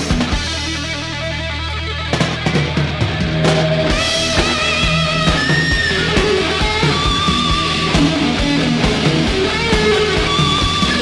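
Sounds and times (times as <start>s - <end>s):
electric guitar lead notes: 0.0s - 11.0s
steady drum beat: 0.0s - 11.0s.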